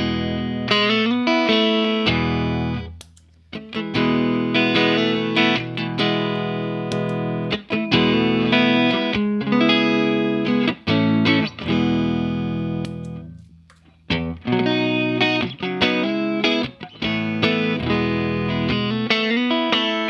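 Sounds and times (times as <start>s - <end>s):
clean electric guitar playing: 0.0s - 13.4s, 14.1s - 20.0s.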